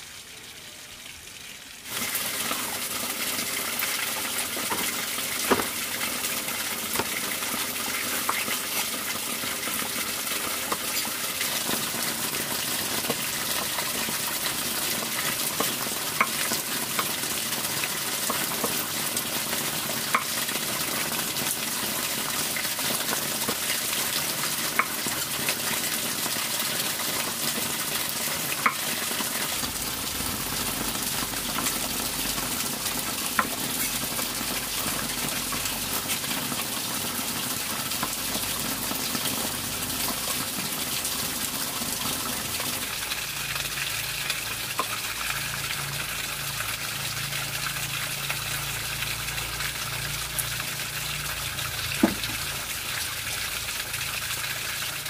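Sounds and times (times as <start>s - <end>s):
pork fat sizzling: 0.0s - 55.0s.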